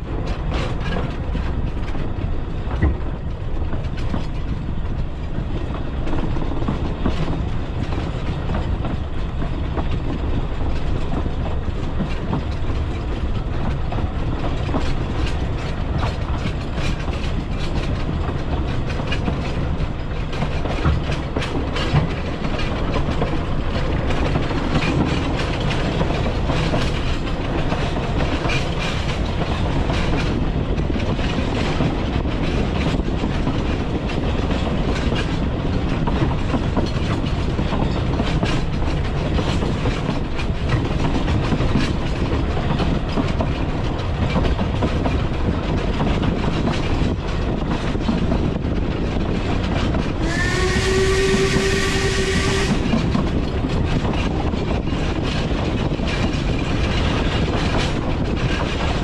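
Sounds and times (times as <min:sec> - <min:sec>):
train rumbling: 0:00.0 - 0:59.0
wheels clicking over rail joints: 0:00.0 - 0:59.0.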